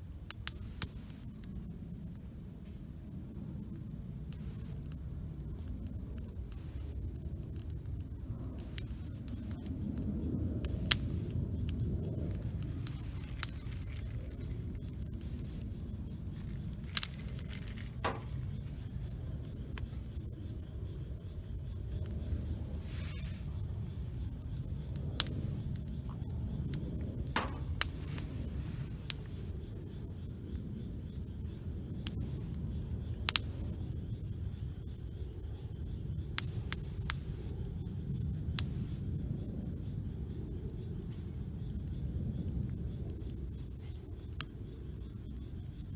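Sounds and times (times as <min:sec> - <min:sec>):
campfire crackling and popping: 0:00.0 - 0:45.5.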